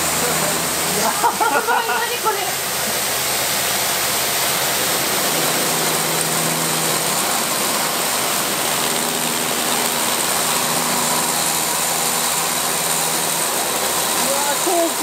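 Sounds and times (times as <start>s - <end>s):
motor humming: 0.0s - 15.0s
water jet spraying on panel: 0.0s - 15.0s.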